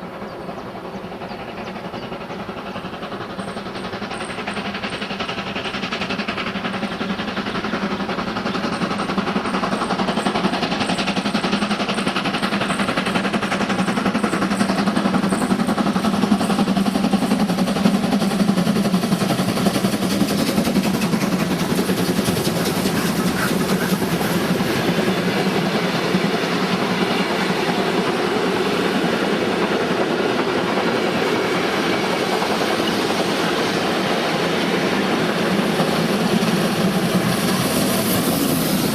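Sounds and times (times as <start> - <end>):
train wheels rumbling and clattering: 0.0 - 38.9.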